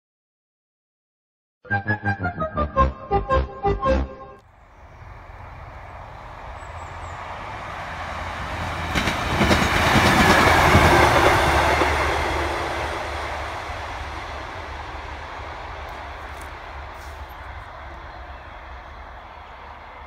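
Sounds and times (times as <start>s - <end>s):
diesel train passing: 2.0s - 20.0s.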